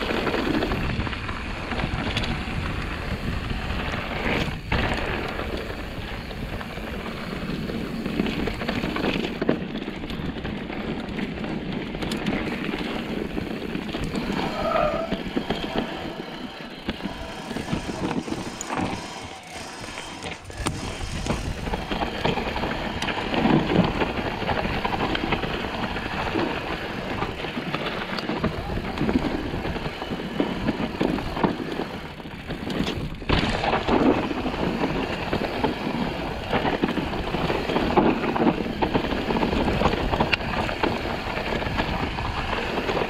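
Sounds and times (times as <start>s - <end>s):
bike frame and chain rattling: 0.0s - 43.0s
bike tyres skidding over dirt: 0.0s - 43.0s
wind buffeting microphone: 0.0s - 43.0s.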